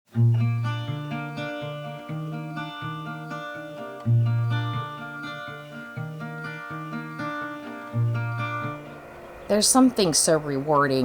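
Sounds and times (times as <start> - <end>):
acoustic guitar picking melody: 0.1 - 11.0.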